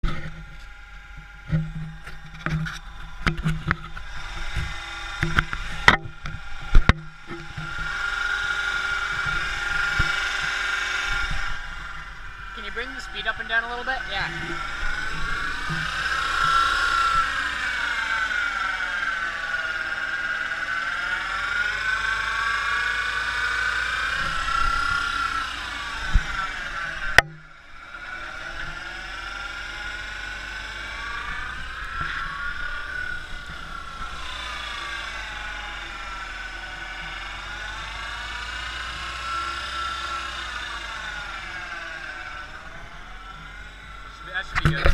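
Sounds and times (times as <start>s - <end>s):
car differential whining: 0.0s - 44.9s.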